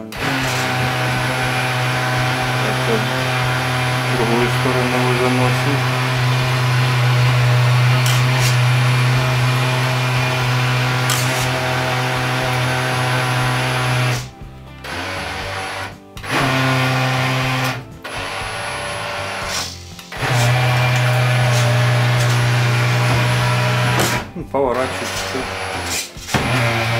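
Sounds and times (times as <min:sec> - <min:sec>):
electric motor humming: 0:00.0 - 0:26.9.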